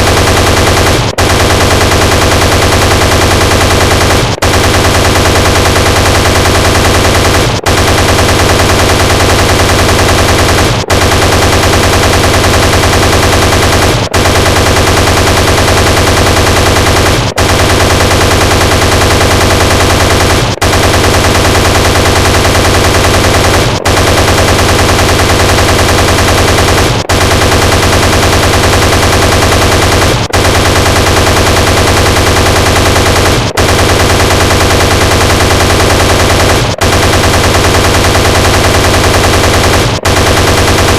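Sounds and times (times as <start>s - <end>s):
helicopter chain gun firing: 0.0s - 40.9s.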